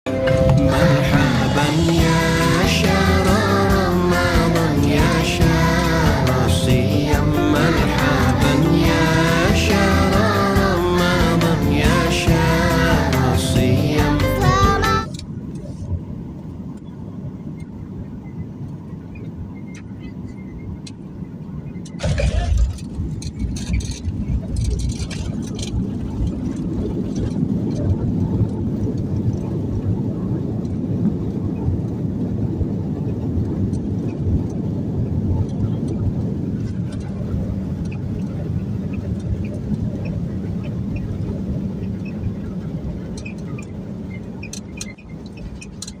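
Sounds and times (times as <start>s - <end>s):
airliner cabin rumble: 0.1s - 46.0s.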